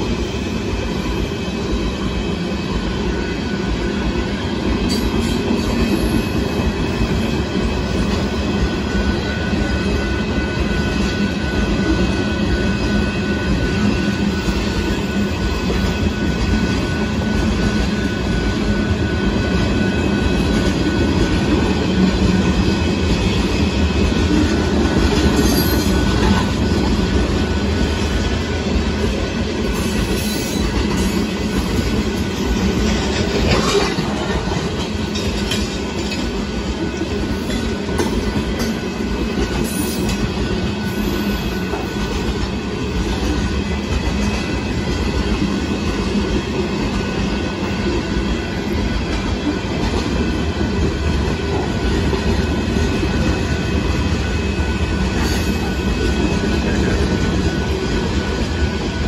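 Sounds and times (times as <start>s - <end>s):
freight cars rumbling on rails: 0.0s - 59.0s.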